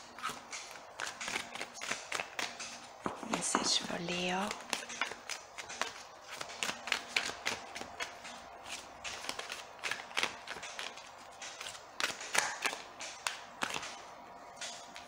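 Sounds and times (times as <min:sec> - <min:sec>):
cards being shuffled by hand: 0:00.0 - 0:14.0.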